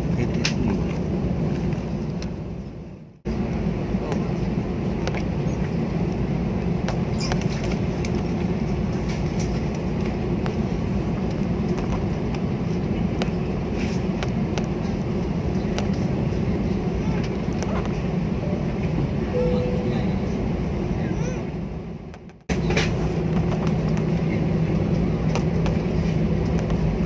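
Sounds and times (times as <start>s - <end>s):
jet engines low rumble: 0.0s - 27.0s.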